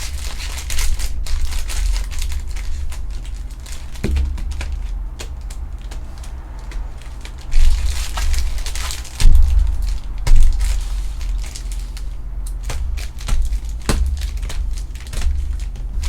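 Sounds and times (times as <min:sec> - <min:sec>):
cards being handled: 0:00.0 - 0:16.0
foil wrappers crinkling: 0:00.0 - 0:16.0.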